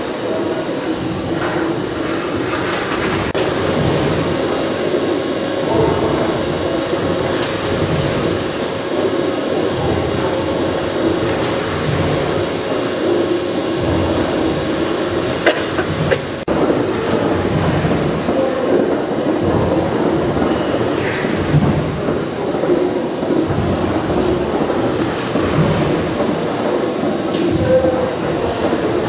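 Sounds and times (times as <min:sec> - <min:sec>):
steam engine mechanical rumble: 0:00.0 - 0:29.0.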